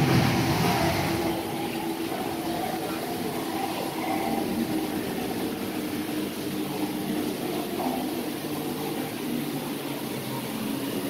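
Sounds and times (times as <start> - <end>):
hum and hiss: 0.0 - 11.0.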